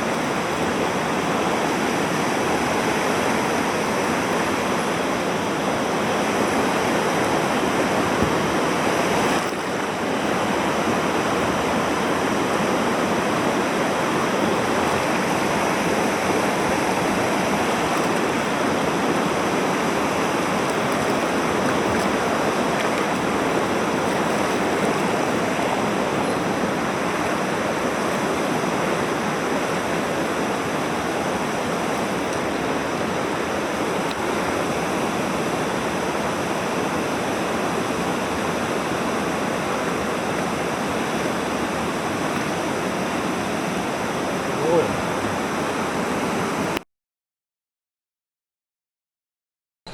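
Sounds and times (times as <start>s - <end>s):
stream rushing over rocks: 0.0s - 46.8s.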